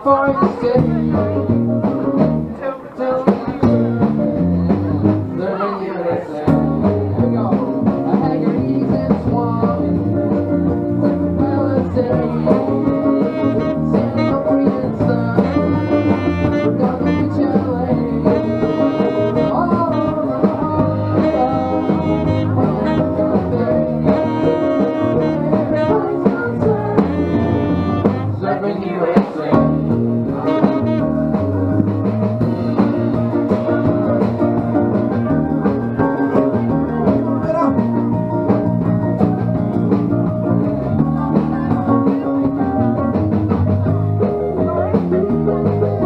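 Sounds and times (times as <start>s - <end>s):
live band playing instrumental: 0.0s - 46.0s.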